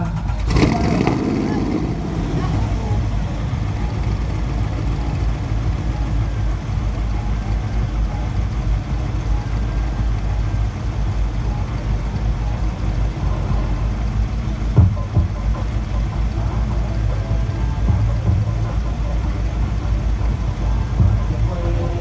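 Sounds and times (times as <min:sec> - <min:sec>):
car engine idling: 0:00.0 - 0:22.0
engine revving blip: 0:00.0 - 0:22.0.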